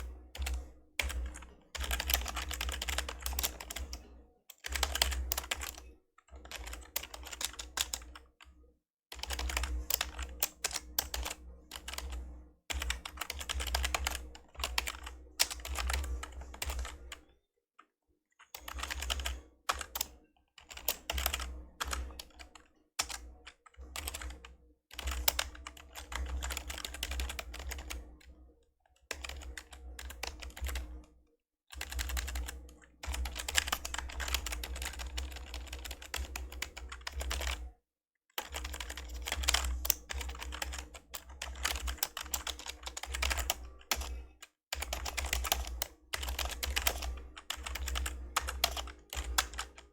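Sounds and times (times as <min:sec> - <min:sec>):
membrane keyboard typing: 0:00.0 - 0:08.5, 0:09.1 - 0:17.3, 0:18.4 - 0:28.4, 0:29.0 - 0:31.1, 0:31.7 - 0:37.7, 0:38.4 - 0:49.9.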